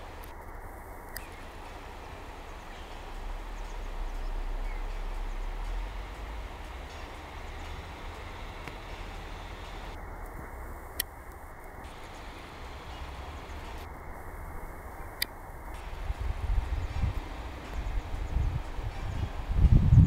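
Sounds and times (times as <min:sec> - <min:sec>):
distant lorry rumbling: 0:00.0 - 0:20.0
outdoor background noise: 0:00.0 - 0:20.0.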